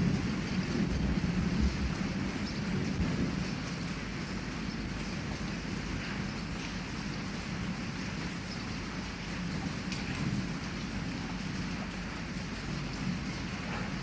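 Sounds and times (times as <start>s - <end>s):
heavy rain on a window: 0.0s - 14.0s.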